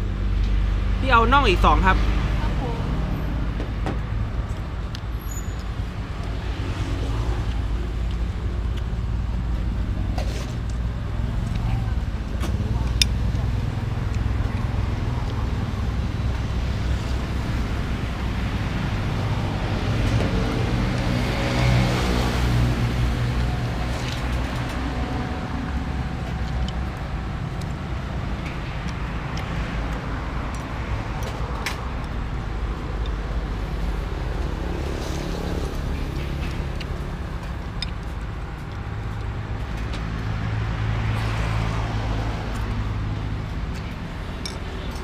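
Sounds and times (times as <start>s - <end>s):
low traffic rumble: 0.0s - 45.0s
vehicle engines passing: 0.0s - 45.0s.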